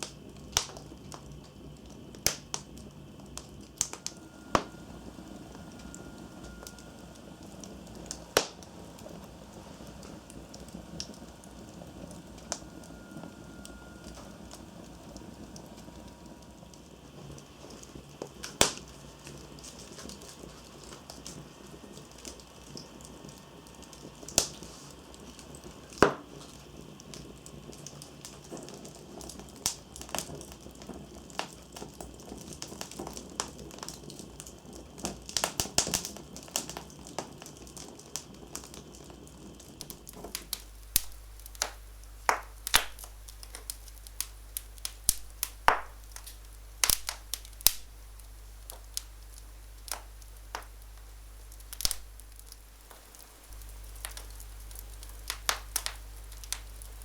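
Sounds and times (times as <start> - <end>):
fire pops: 0.0 - 57.0
wood fire crackling: 0.0 - 57.0.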